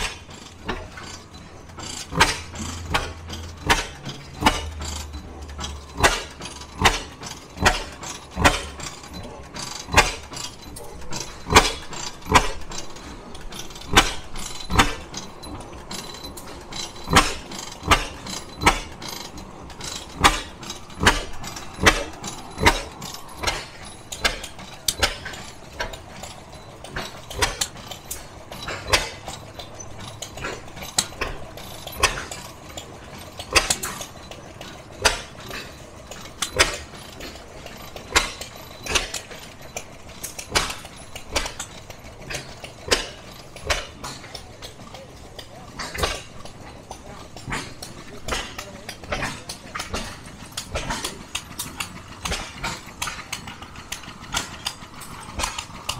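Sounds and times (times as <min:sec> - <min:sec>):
sharp exhaust pops: 0:00.0 - 0:10.5, 0:11.1 - 0:44.8, 0:45.4 - 0:55.9
stationary gas engines running: 0:00.0 - 0:55.9.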